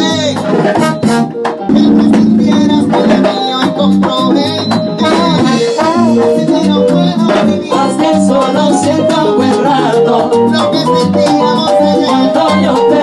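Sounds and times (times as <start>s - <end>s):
percussion: 0.0s - 13.0s
trombone: 0.0s - 13.0s.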